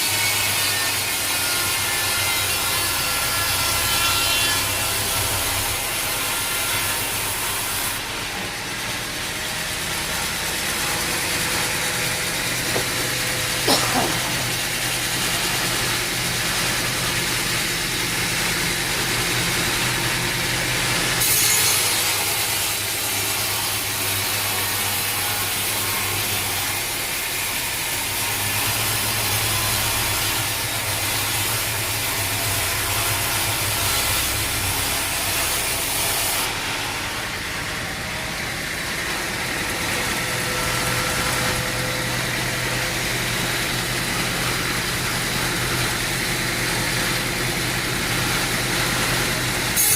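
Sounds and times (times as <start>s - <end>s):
saw blade cutting log: 0.0s - 49.9s
sawmill engine running: 0.0s - 49.9s.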